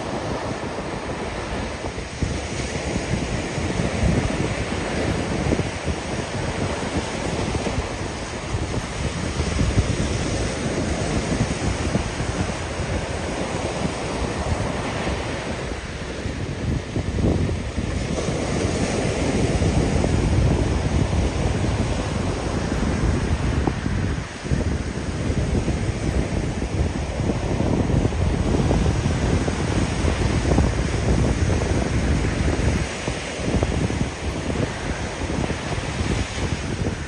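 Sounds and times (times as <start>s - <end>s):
surf waves washing up beach: 0.0s - 37.0s
wind buffeting microphone: 0.0s - 37.0s.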